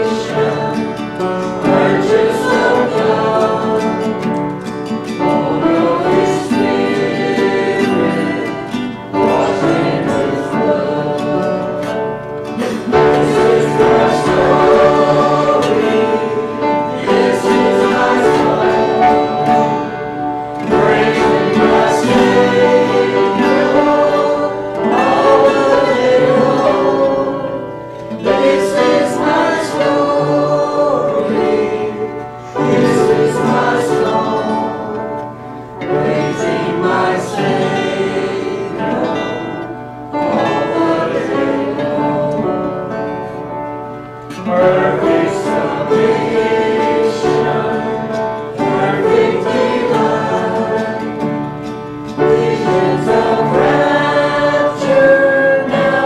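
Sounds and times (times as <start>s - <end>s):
acoustic guitar: 0.0s - 56.0s
voices singing a hymn: 0.0s - 56.0s.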